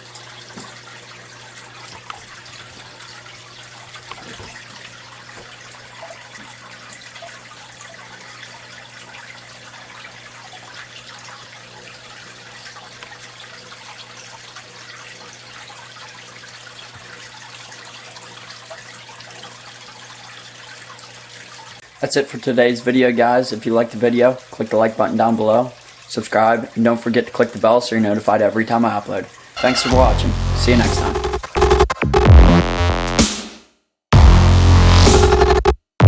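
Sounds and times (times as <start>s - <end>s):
aquarium water trickling and bubbling: 0.0s - 29.6s.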